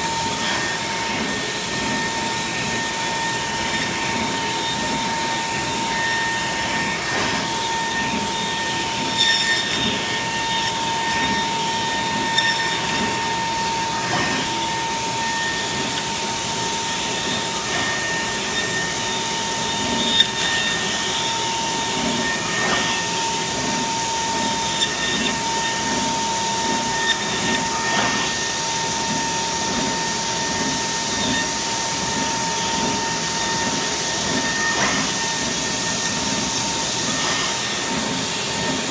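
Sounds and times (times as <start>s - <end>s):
milling spindle whine: 0.0s - 38.9s
router bit cutting foam board: 0.0s - 38.9s.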